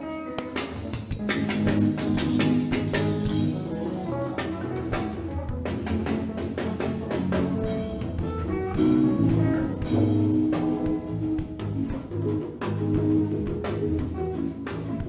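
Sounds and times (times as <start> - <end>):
band playing guitar and drums: 0.0 - 15.0.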